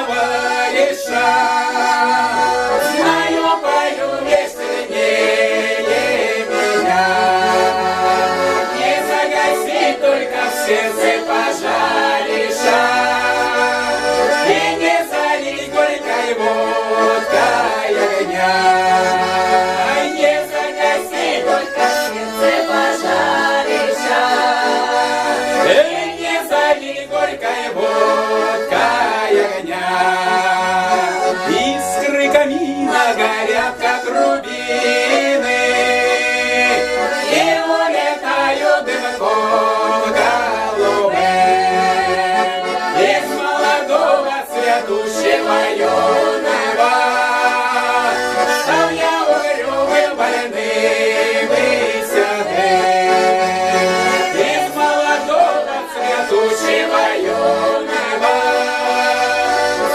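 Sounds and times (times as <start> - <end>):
accordion playing a melody: 0.0 - 59.9.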